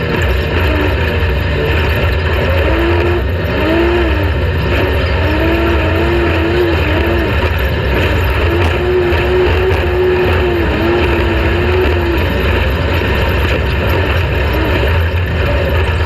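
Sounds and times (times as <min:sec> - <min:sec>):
off-road vehicle engine running hard: 0:00.0 - 0:16.0
steady rush of noise: 0:00.0 - 0:16.0.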